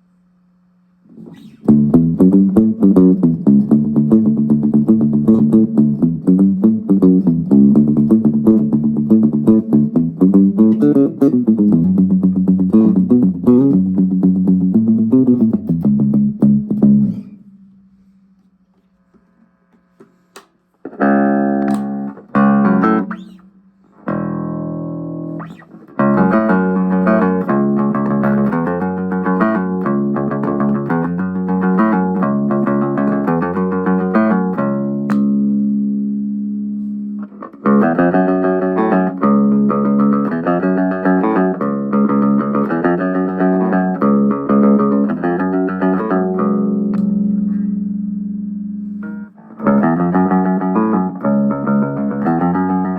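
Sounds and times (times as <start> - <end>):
electric bass plucked notes: 1.1 - 18.2, 20.4 - 52.9.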